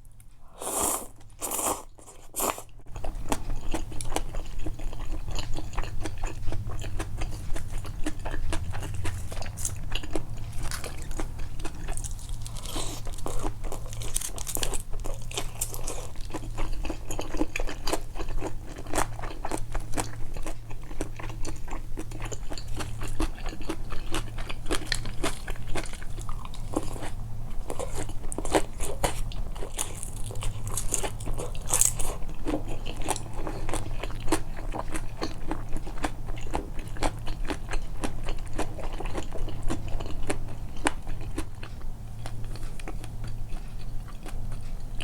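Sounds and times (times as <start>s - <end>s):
crunching and chewing: 0.0s - 45.0s
low steady hum: 0.0s - 45.0s.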